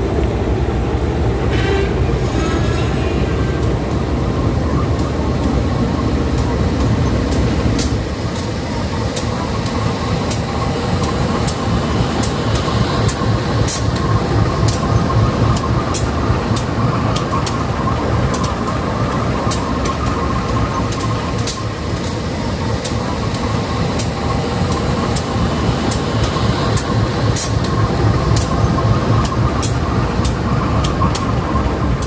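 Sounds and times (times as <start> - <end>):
diesel locomotive rumbling: 0.0 - 32.0.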